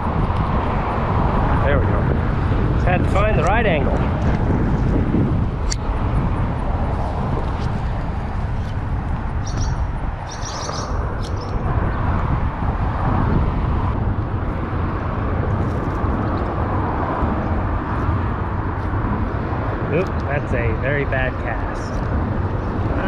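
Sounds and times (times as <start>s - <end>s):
highway traffic noise: 0.0s - 23.0s.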